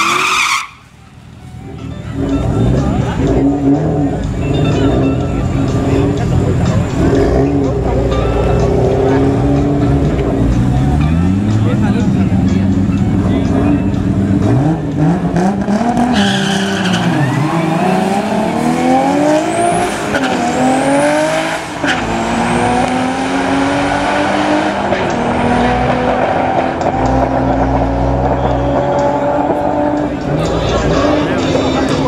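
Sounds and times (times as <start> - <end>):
cars accelerating at full throttle: 1.7 - 32.0.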